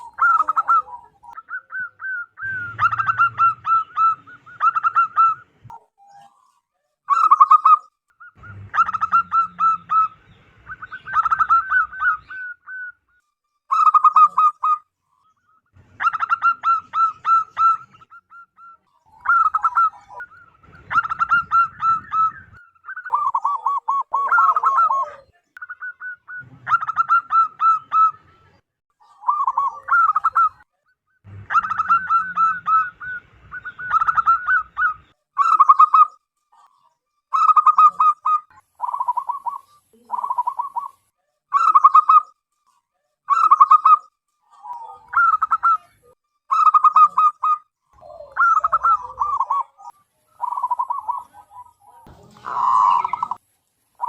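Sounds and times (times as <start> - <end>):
dove cooing: 0.0 - 6.4, 7.1 - 14.8, 15.9 - 28.4, 29.0 - 30.6, 31.3 - 42.2, 43.3 - 53.5.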